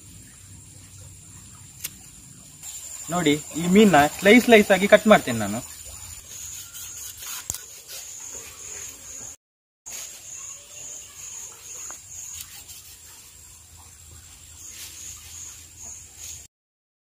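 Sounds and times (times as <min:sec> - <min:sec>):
insects chirping: 0:00.0 - 0:16.5.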